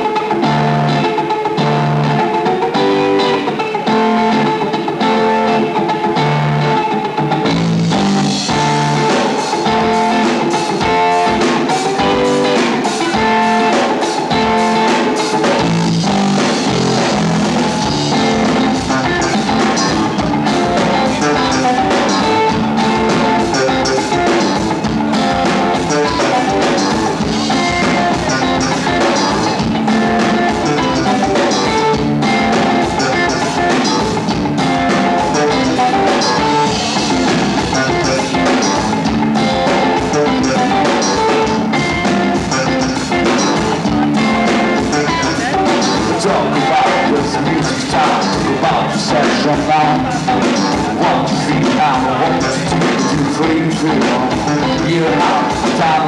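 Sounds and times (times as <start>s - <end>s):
funk rock band playing: 0.0s - 56.0s.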